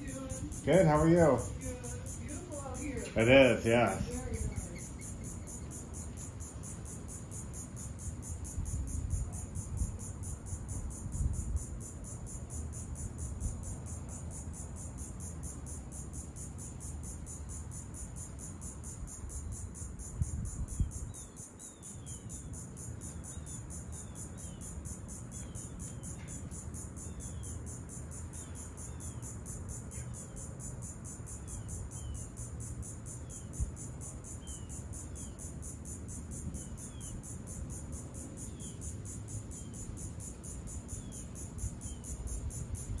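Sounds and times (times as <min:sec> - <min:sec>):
insects trilling: 0:00.0 - 0:43.0.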